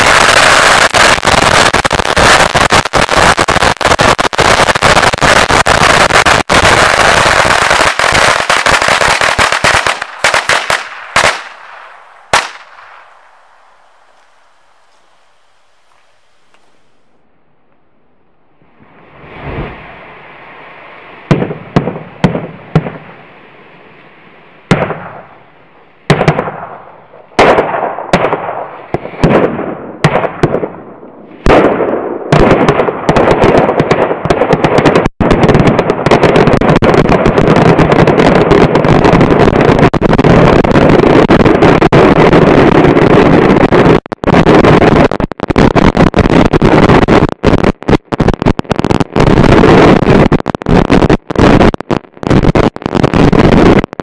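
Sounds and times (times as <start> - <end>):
firecrackers crackling: 0.0 - 17.2, 19.0 - 54.0
firecrackers exploding: 0.0 - 17.2, 19.0 - 23.8, 24.6 - 54.0.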